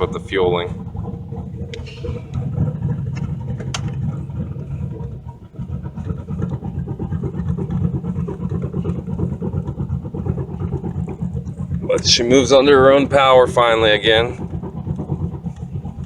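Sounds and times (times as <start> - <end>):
car engine rumbling at low revs: 0.0 - 16.0.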